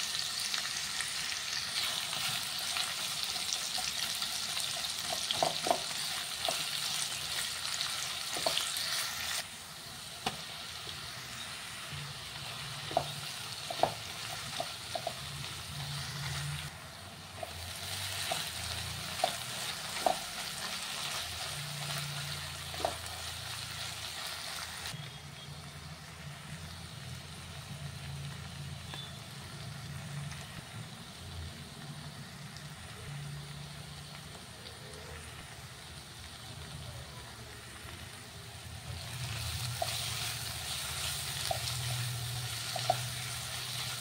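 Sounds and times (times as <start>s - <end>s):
onion and tomato sizzling in oil: 0.0s - 44.0s.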